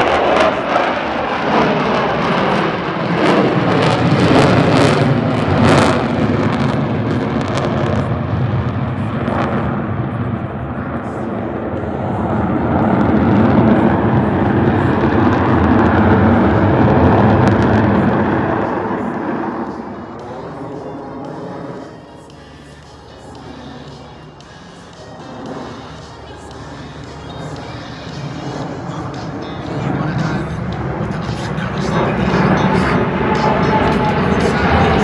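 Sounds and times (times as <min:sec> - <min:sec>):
jets passing overhead: 0:00.0 - 0:35.0.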